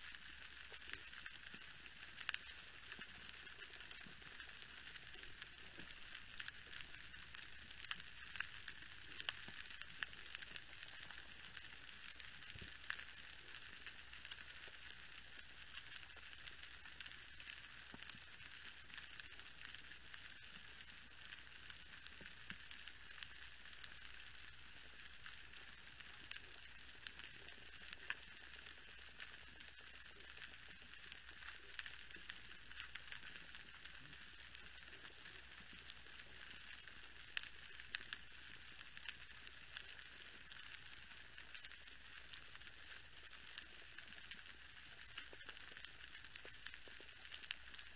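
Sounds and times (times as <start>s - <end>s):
low steady hum: 0.0s - 47.9s
snapping shrimp crackling underwater: 0.0s - 47.9s.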